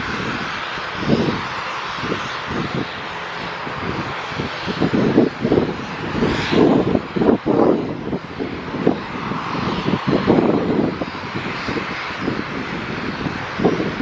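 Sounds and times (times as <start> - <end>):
jet engine hissing: 0.0 - 14.0
wind buffeting microphone: 0.0 - 14.0.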